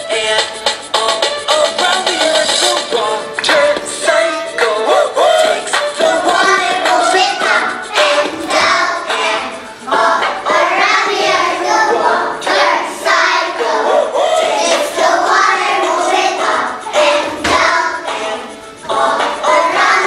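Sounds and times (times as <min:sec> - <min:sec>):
music: 0:00.0 - 0:20.0
children singing: 0:01.1 - 0:20.0.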